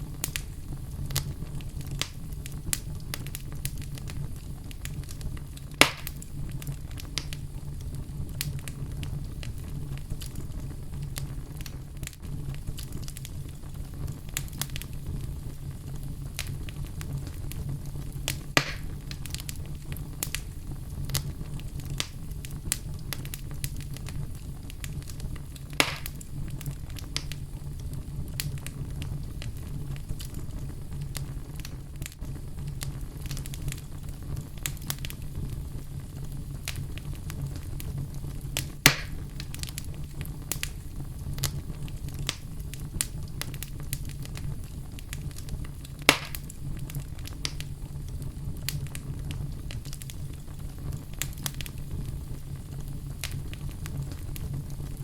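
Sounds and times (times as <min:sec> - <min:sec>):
loud fire pops: 0:00.0 - 0:55.0
low rumble of fire: 0:00.0 - 0:55.0
wood fire crackling: 0:00.0 - 0:55.0.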